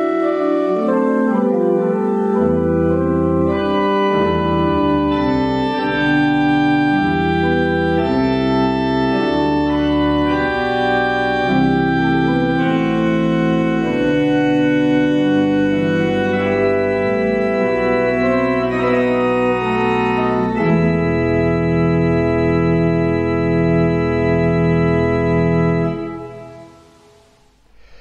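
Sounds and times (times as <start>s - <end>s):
pipe organ playing chords: 0.0s - 27.6s.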